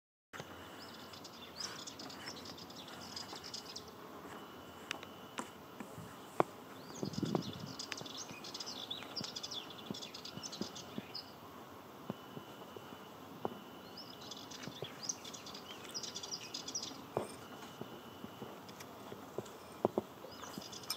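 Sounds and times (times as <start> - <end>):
warbler singing: 0.4 - 11.4, 12.1 - 20.9.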